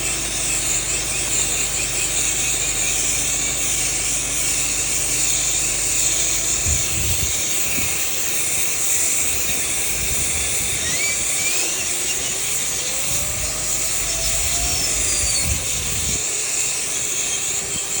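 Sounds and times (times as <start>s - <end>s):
faint squeals: 0.0s - 18.0s
vent cleaning machine hissing: 0.0s - 18.0s.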